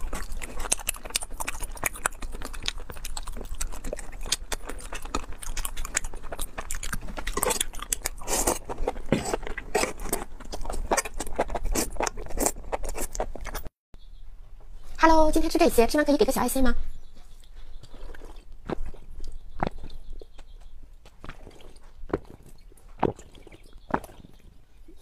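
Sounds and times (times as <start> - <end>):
chewing with wet smacking: 0.0 - 13.7, 17.2 - 25.0.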